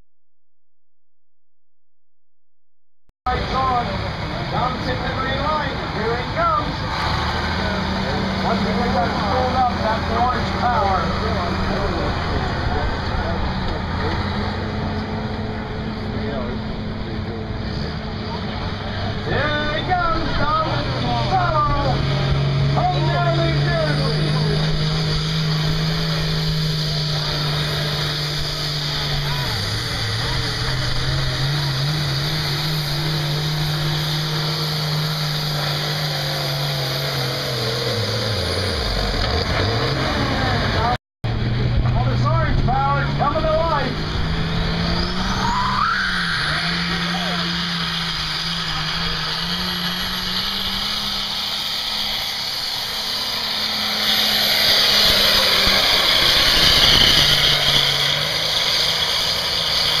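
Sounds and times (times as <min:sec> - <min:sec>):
diesel tractor engine under load: 0:03.3 - 1:00.0.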